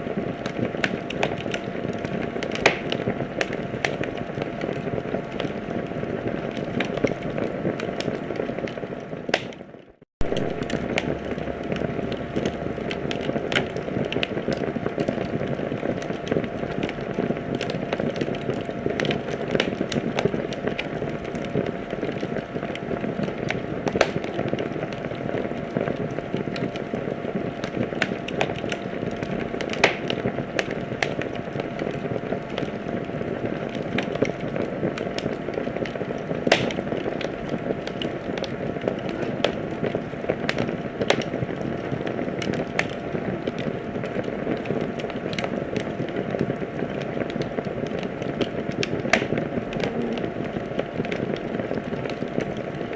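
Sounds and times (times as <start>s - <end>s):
burning logs popping: 0.0s - 52.9s
wood fire crackling: 0.0s - 52.9s.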